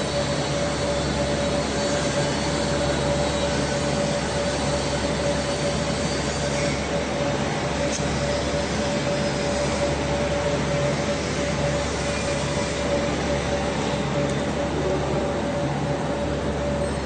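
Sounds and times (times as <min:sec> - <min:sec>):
machine drone: 0:00.0 - 0:17.0.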